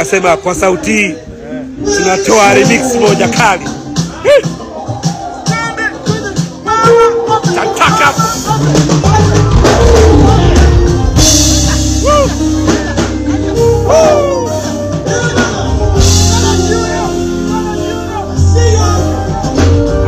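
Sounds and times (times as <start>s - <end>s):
person singing: 1.2s - 20.0s
heavy bass beat: 2.4s - 20.0s.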